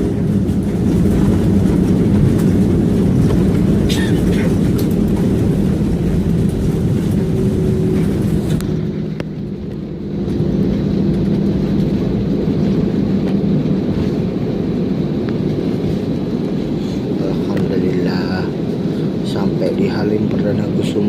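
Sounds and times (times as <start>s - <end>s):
airliner cabin engine hum: 0.0s - 21.0s.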